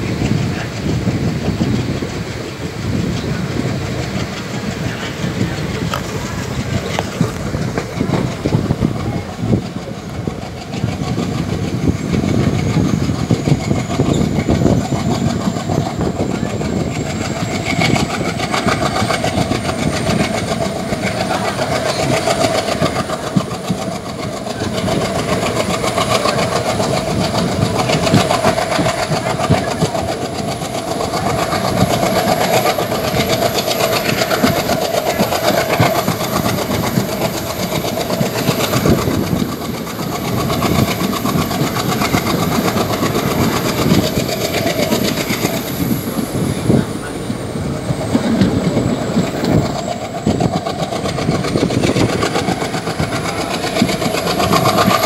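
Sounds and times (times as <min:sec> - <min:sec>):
train carriage rattling on rails: 0:00.0 - 0:55.0
wind rush: 0:00.0 - 0:55.0.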